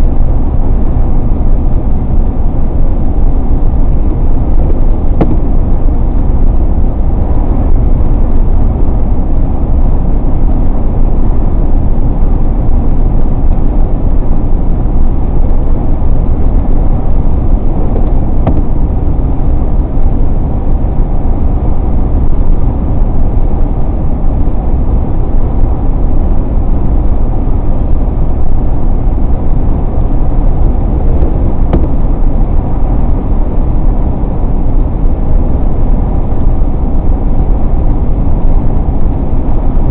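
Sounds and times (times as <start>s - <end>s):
car road noise from inside: 0.0s - 39.9s.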